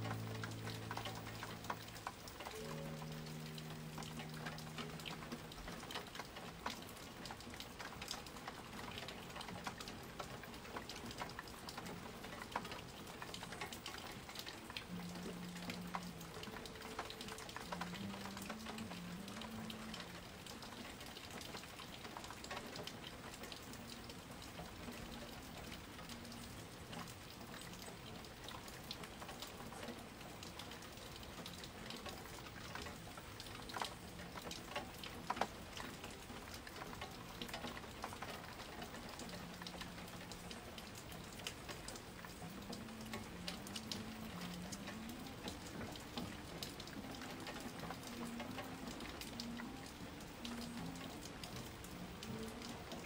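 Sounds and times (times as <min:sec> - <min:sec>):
raindrops clicking on a surface: 0:00.0 - 0:53.0
steady rain falling: 0:00.0 - 0:53.0.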